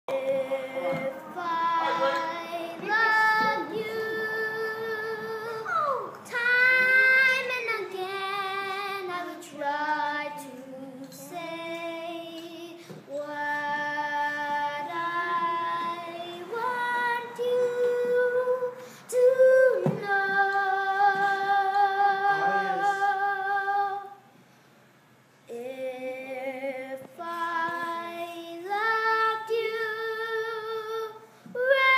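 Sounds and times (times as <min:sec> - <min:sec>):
girl singing: 0:00.1 - 0:24.2, 0:25.4 - 0:31.9.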